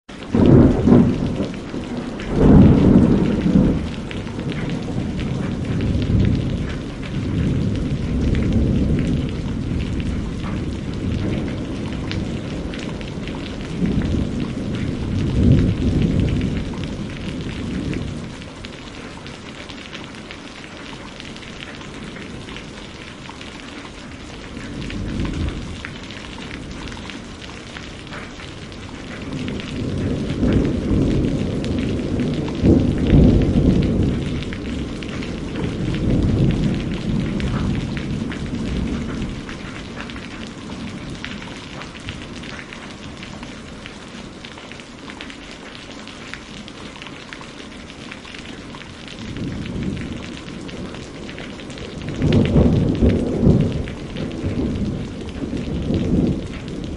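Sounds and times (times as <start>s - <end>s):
steady rain: 0.0s - 56.9s
rolling thunder: 0.2s - 19.4s, 24.1s - 44.4s, 48.7s - 56.9s.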